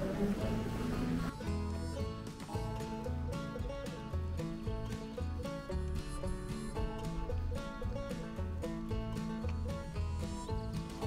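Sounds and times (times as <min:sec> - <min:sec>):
background music with plucked notes: 0:00.0 - 0:11.0.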